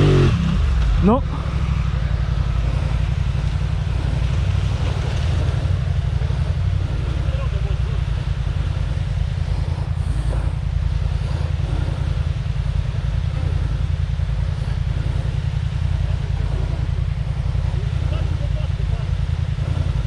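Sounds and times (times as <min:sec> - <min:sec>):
atv engine rumbling: 0:00.0 - 0:20.0.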